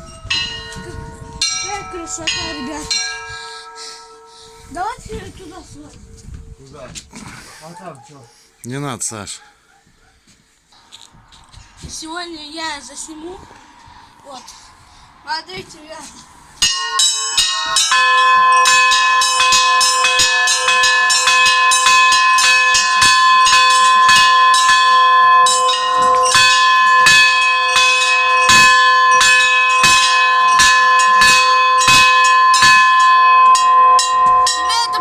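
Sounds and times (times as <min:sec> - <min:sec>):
church bells pealing: 0:00.0 - 0:07.1, 0:10.8 - 0:35.0.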